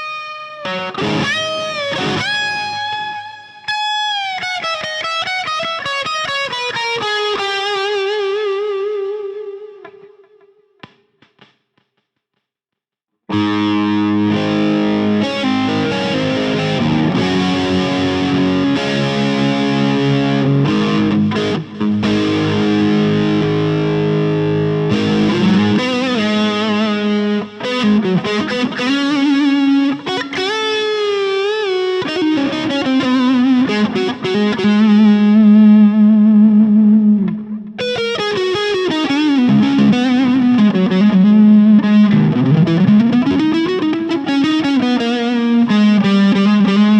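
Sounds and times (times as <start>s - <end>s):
distorted electric guitar: 0.0s - 11.5s, 13.3s - 46.9s.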